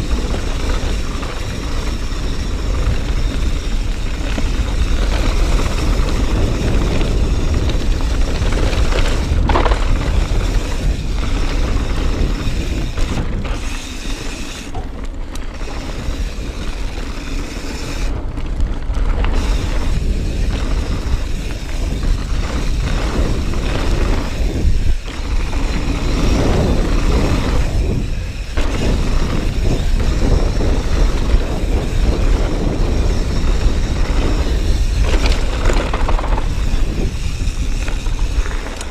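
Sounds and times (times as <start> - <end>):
bike rattling: 0.0 - 38.9
tyres rolling over gravel: 0.0 - 38.9
wind rushing over microphone: 0.0 - 38.9.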